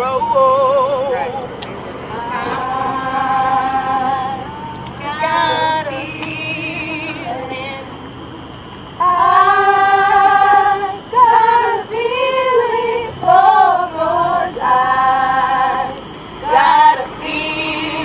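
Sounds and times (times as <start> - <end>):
women singing slow melody: 0.0 - 8.1, 8.8 - 18.0.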